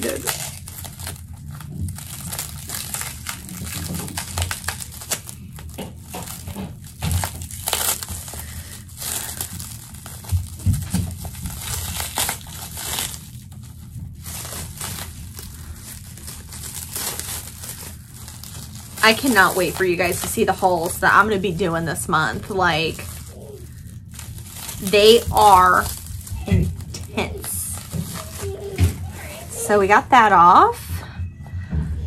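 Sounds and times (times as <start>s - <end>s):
packaging crinkling and rustling: 0.0s - 30.8s.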